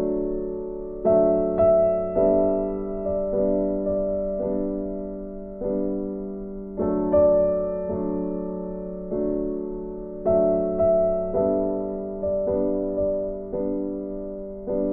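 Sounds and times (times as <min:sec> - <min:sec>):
soft piano chords: 0:00.0 - 0:14.9.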